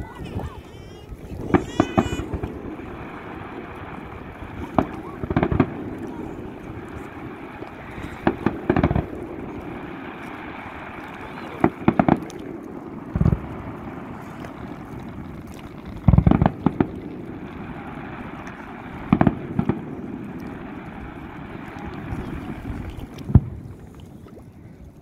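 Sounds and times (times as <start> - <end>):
fireworks cracking and booming: 0.0 - 23.7.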